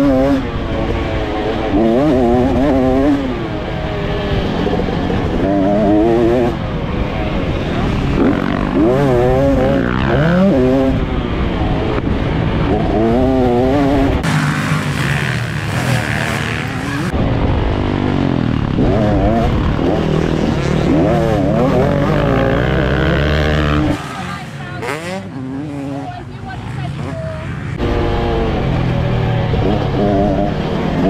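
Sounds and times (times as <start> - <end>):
pit bike engine revving: 0.0 - 17.2, 17.8 - 31.0.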